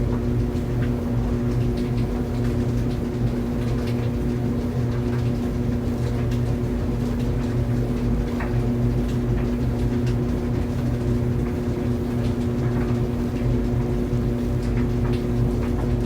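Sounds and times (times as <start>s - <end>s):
clothes dryer humming: 0.0s - 16.0s.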